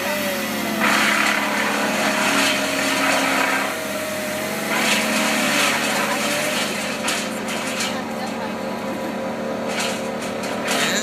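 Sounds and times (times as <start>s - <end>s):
machinery engine hum with whine: 0.0s - 11.0s.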